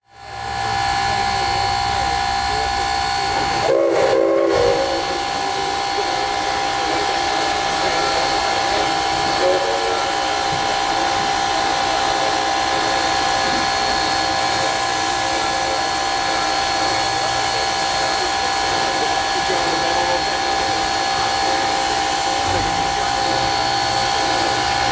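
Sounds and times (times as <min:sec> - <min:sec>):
steam locomotive whine and hiss: 0:00.0 - 0:24.9.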